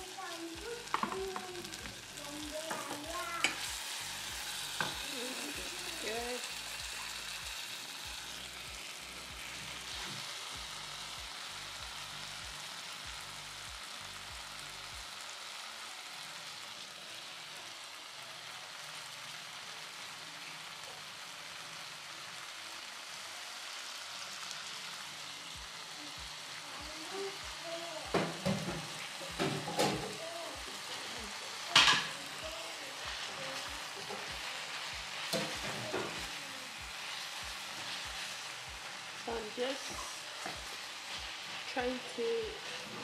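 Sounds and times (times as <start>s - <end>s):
tomatoes sizzling in a saucepan: 0.0s - 43.0s.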